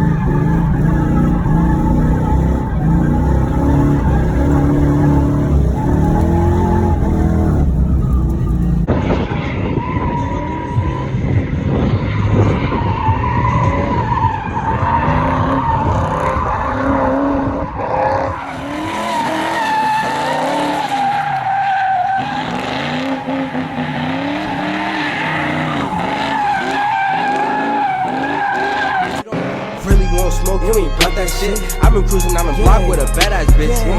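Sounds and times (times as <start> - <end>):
car engine revving: 0.0 - 33.9
tires squealing: 0.0 - 33.9.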